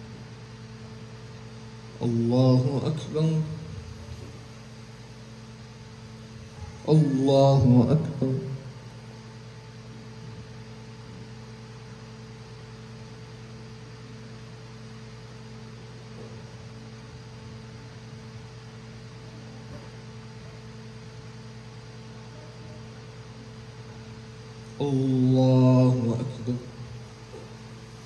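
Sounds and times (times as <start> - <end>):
electrical mains hum: 0.0 - 28.0
room noise hiss: 0.0 - 28.0.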